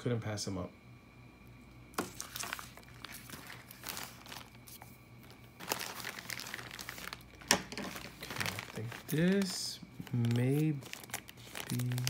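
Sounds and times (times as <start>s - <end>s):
plastic packaging crinkling: 2.0s - 12.0s.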